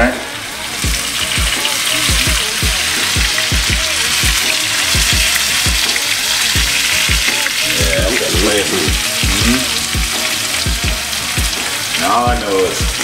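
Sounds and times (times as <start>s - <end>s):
bass drum beat music: 0.0s - 13.0s
chicken wings sizzling in oil: 0.0s - 13.0s.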